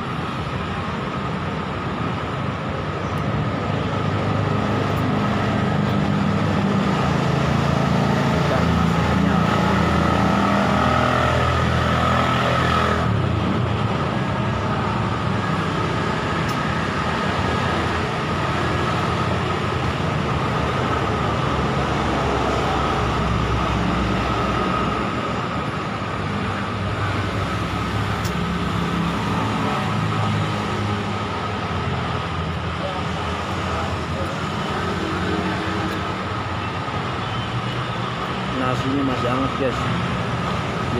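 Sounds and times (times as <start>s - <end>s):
engine running close by: 0.0s - 37.4s
passing road traffic: 0.0s - 40.9s.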